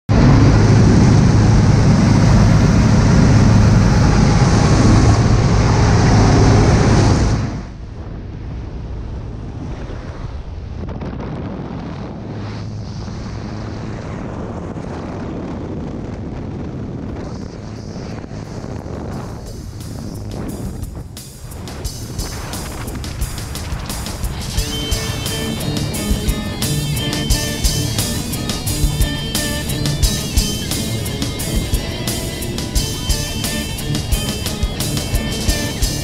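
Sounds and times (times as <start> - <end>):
small plane engine drone: 0.1 - 9.9, 11.3 - 36.0
wind rush: 0.1 - 36.0.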